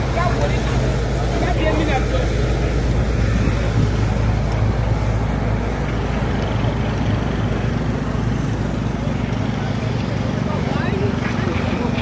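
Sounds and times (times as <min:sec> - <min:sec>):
roadway noise: 0:00.0 - 0:12.0
vehicle engines humming: 0:00.0 - 0:12.0.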